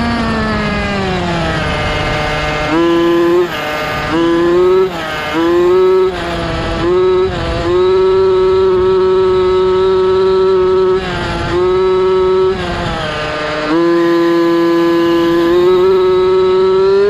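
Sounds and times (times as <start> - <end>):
rc truck engine revving: 0.0 - 17.0.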